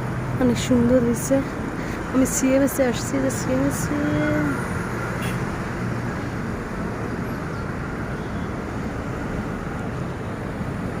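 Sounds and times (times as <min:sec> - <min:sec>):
moving vehicle rumble: 0:00.0 - 0:11.0
road noise: 0:00.0 - 0:11.0.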